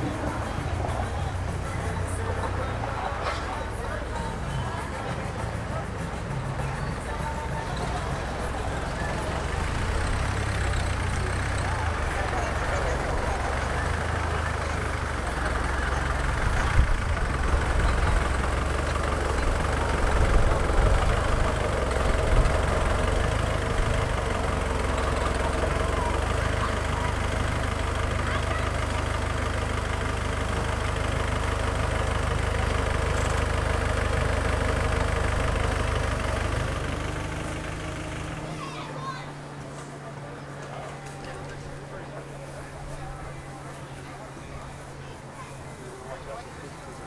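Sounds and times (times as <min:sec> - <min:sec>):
van engine idling: 0:00.0 - 0:47.0.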